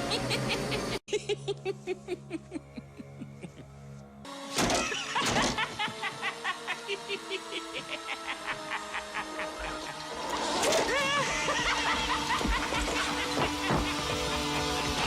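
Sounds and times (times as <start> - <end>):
doll laughing: 0.0 - 3.9, 4.6 - 15.0.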